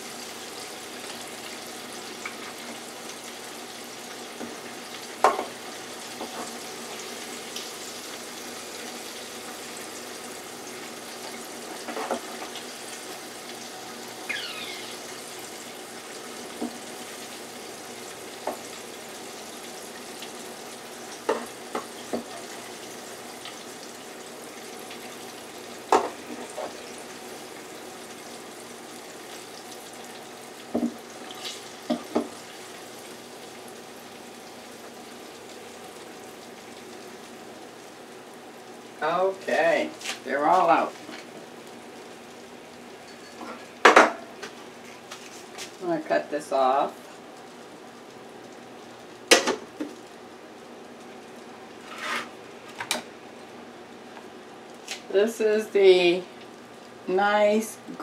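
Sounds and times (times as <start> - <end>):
hot oil sizzling in fryer: 0.0 - 58.0.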